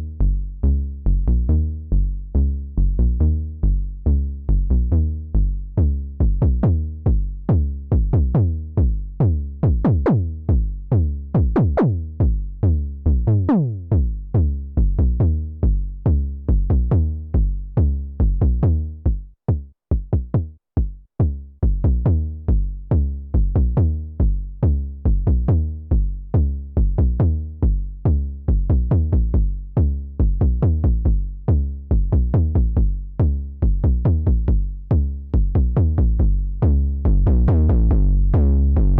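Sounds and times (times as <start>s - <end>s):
synthesizer kick drums and bass: 0.0s - 38.9s.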